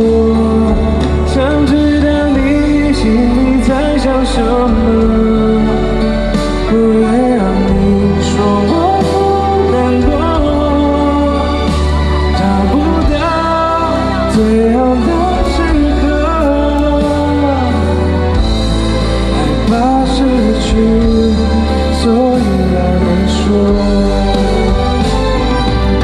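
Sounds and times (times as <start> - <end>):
lead singer singing: 0.0 - 26.0
pop band backing: 0.0 - 26.0.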